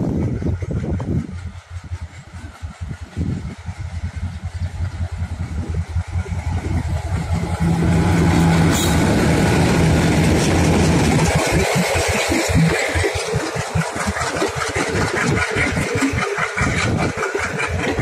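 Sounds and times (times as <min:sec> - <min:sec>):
diesel locomotives chugging: 0:00.0 - 0:18.0.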